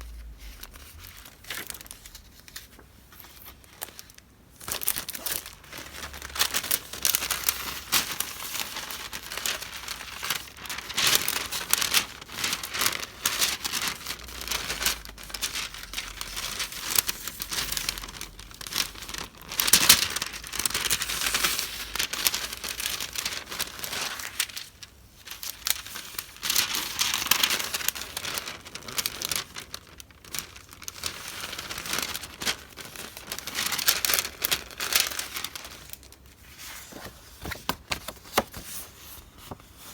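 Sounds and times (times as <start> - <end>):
paper wrapping crinkling: 0.0 - 39.9.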